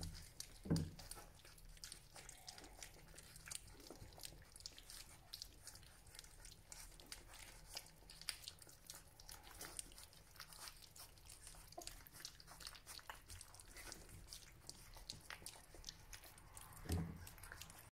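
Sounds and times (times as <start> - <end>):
puppies lapping and chewing: 0.0 - 17.9.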